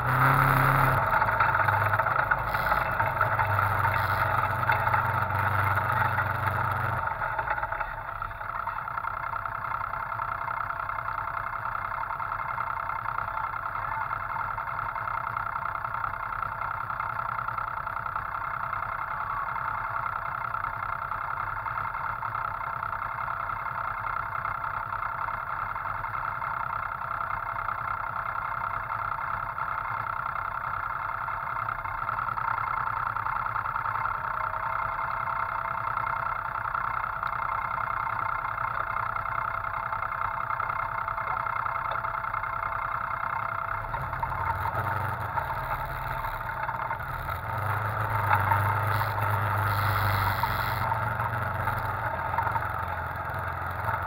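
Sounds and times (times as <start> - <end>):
off-road vehicle engine: 0.0 - 54.0.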